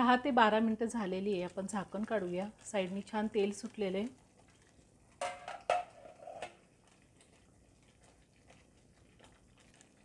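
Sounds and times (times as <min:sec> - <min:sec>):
thick sauce bubbling: 0:00.2 - 0:10.0.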